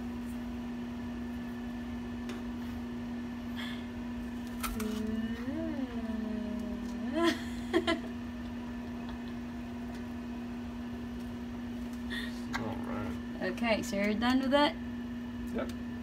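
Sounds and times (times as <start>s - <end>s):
kitchen appliance humming: 0.0s - 16.0s.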